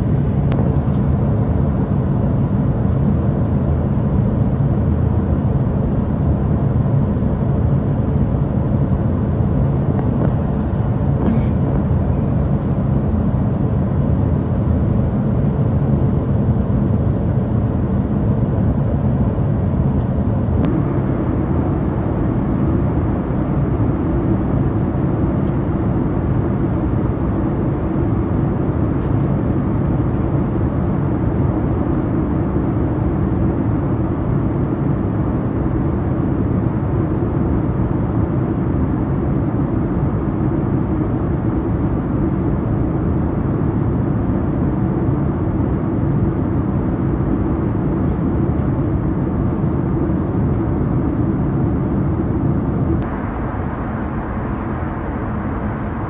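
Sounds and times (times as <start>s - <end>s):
airplane cabin jet engine rumble: 0.0s - 56.0s.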